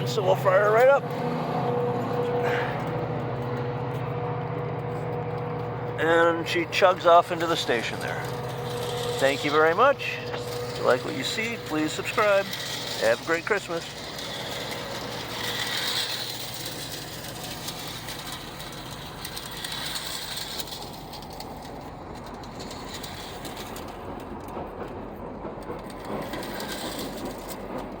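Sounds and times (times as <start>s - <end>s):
clockwork toy train whirring: 0.0s - 28.0s.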